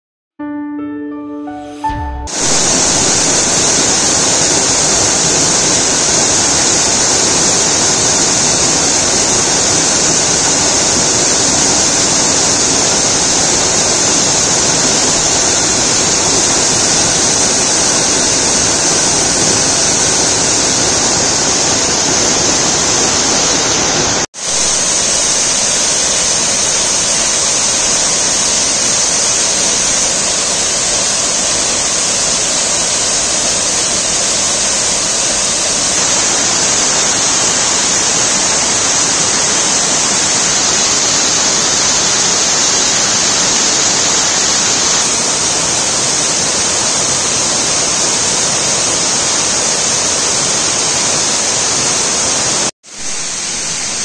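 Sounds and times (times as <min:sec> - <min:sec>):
waterfall rushing into a pool: 0:01.8 - 0:54.0.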